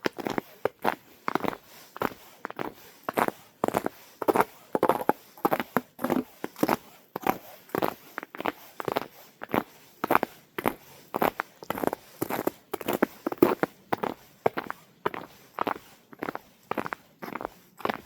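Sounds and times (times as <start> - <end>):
footsteps crunching on ground: 0.0 - 18.0.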